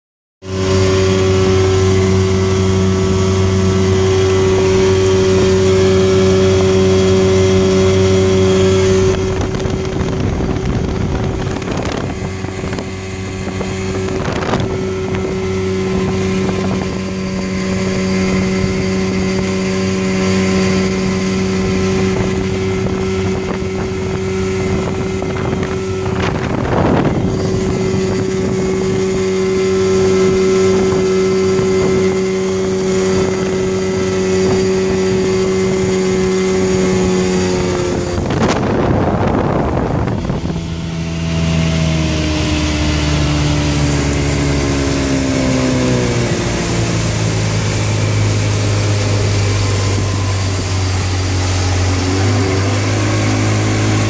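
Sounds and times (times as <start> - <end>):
outboard motor running: 0.4 - 54.0
wind and water rushing: 0.4 - 54.0.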